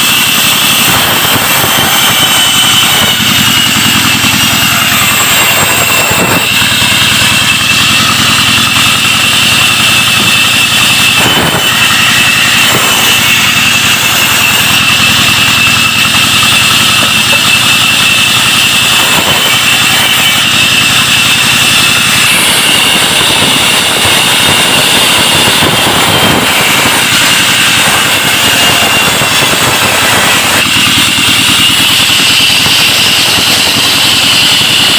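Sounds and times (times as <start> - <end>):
diesel engine running: 0.0 - 34.9
saw machine whine: 0.0 - 34.9.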